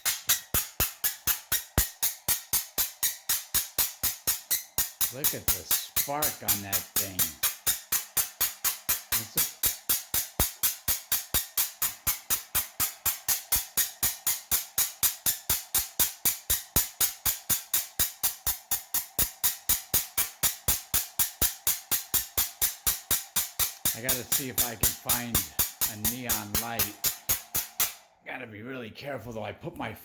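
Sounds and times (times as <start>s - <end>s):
spark generator arcing snaps: 0.0s - 28.0s.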